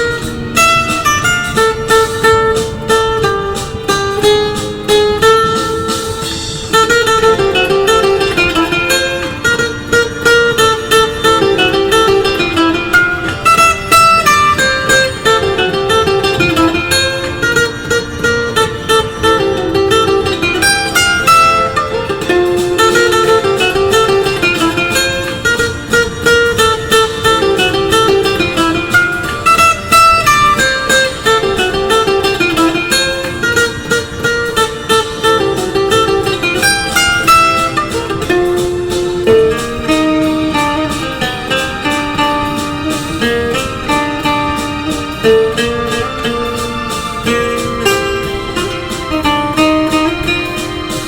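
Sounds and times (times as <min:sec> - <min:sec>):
fast plucked acoustic guitar: 0:00.0 - 0:51.0.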